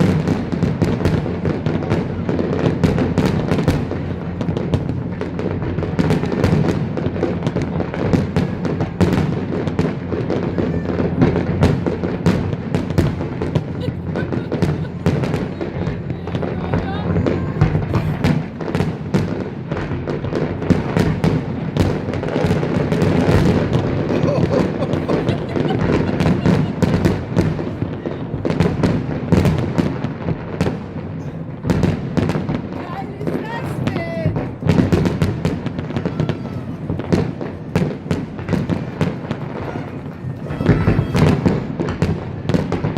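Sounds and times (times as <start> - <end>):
sharp fireworks bangs: 0.0 - 42.9.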